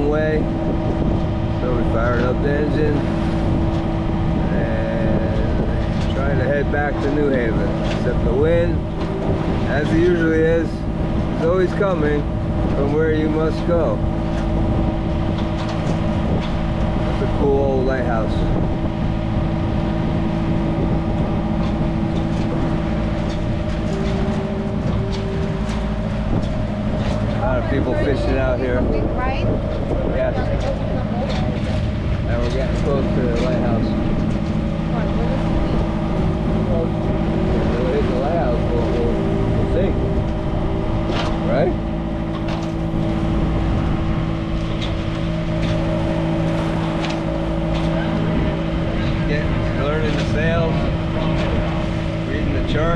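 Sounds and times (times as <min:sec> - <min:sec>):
boat engine droning: 0:00.0 - 0:52.9
low rushing water: 0:00.0 - 0:52.9.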